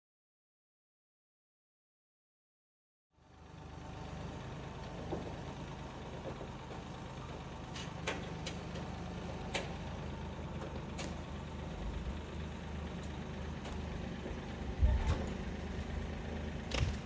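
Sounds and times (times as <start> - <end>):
engine idling: 3.2 - 17.0.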